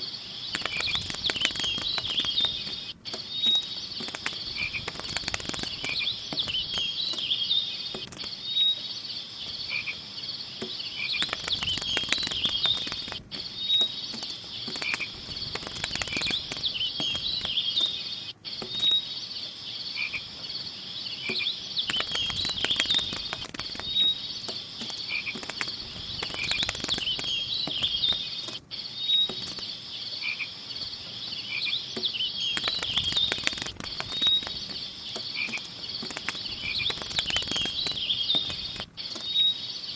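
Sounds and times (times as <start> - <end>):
crackly clicks: 0.0 - 8.6, 10.6 - 29.8, 30.7 - 39.9
frogs and insects chirping: 0.0 - 39.9.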